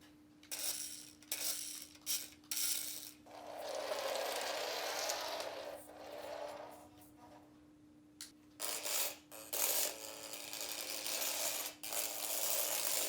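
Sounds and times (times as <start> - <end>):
toy car motor whirring: 0.6 - 6.8, 8.6 - 13.0.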